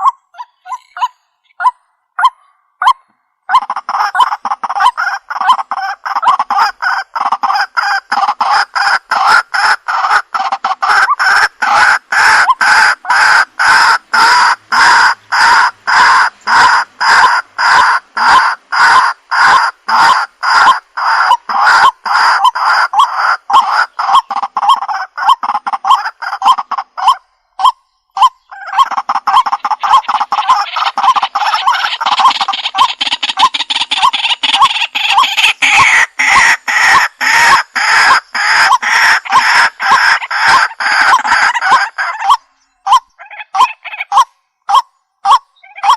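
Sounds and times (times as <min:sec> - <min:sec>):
waterhen calling: 0:00.0 - 0:45.9.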